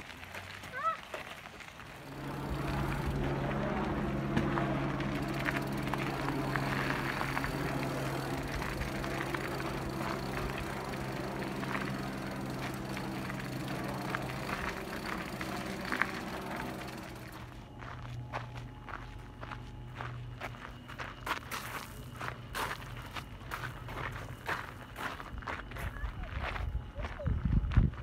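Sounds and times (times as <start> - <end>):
bike tyres rolling on dirt: 0.0 - 26.7
steady low hum: 1.8 - 28.0.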